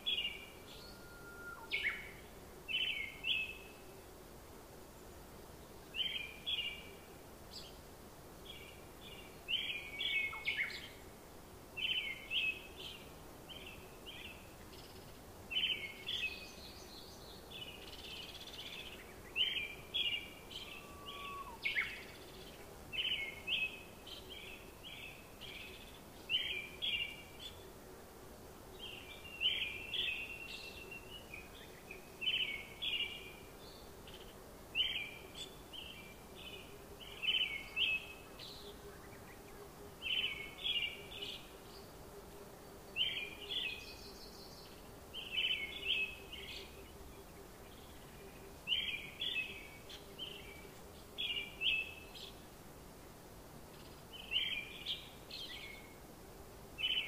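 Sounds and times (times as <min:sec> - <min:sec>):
bird chirping: 0:00.0 - 0:03.9, 0:08.4 - 0:11.0, 0:11.8 - 0:27.7, 0:28.8 - 0:42.0, 0:43.0 - 0:52.4, 0:53.7 - 0:56.0
faint steady hum: 0:00.0 - 0:57.0.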